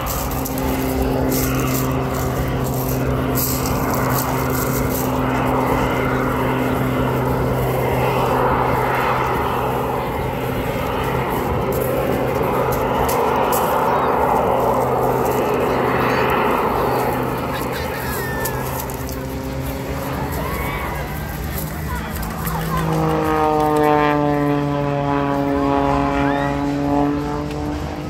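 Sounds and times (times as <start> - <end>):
aircraft engine drone: 0.0 - 28.0.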